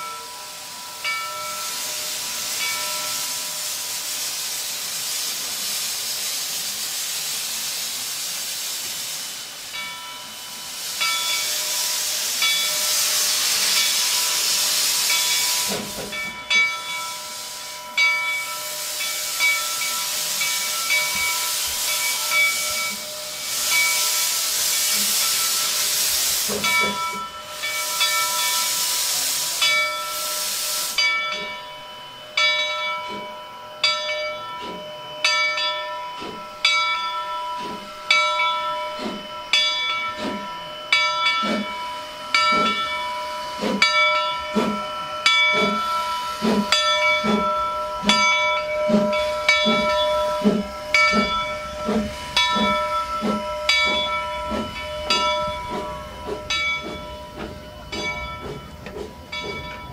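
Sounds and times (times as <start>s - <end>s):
steam hissing: 0.0s - 59.9s
steam locomotive exhaust chuffs: 0.0s - 59.9s.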